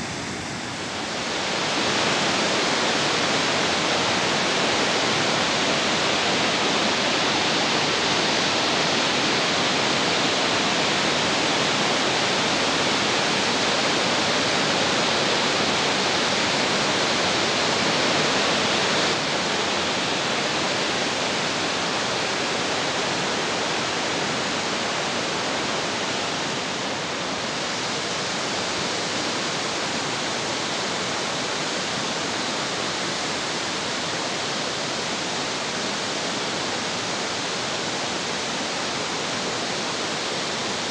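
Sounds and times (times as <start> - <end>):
rushing mountain stream: 0.0 - 40.9.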